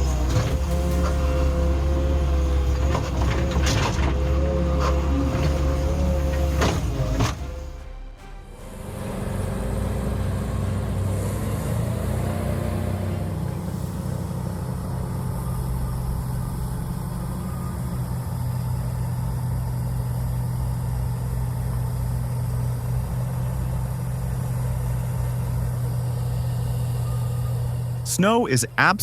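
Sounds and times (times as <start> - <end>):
large vehicle engine humming: 0.0 - 29.0.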